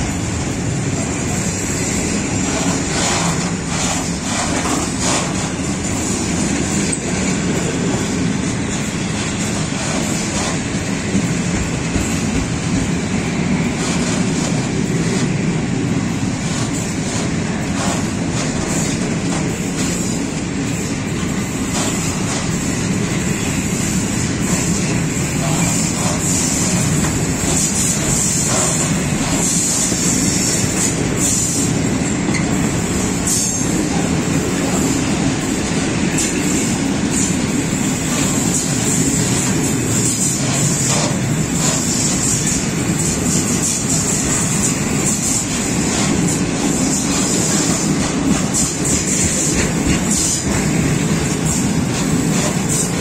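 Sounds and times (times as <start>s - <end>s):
rail joint clatter: 0.0s - 53.0s
train wheels rumbling on rail: 0.0s - 53.0s.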